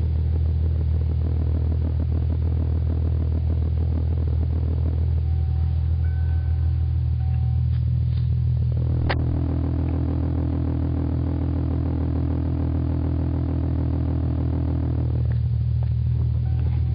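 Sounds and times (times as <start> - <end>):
car engine idling: 0.0 - 16.9
steady higher hum: 0.0 - 16.9.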